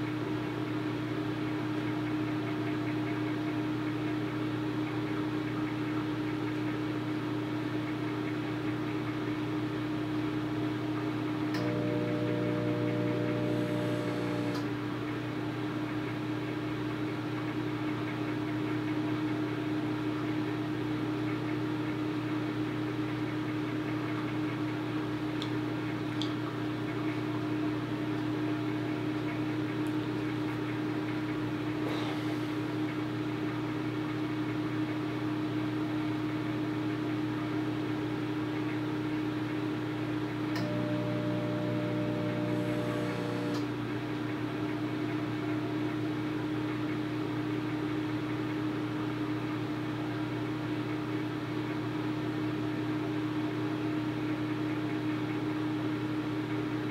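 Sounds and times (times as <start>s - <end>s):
microwave oven humming: 0.0s - 56.9s.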